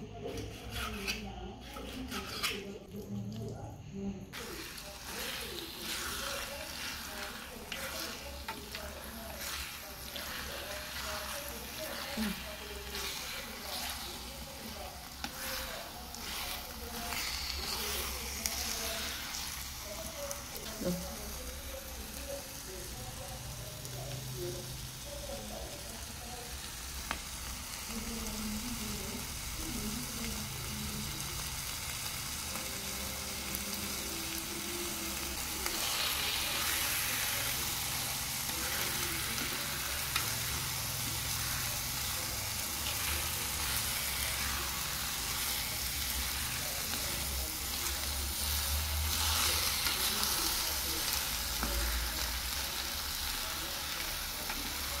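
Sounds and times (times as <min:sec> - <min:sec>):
chopsticks stirring in a pan: 0:00.0 - 0:03.5, 0:04.3 - 0:22.6, 0:23.4 - 0:55.0
liver sizzling in a frying pan: 0:04.3 - 0:55.0.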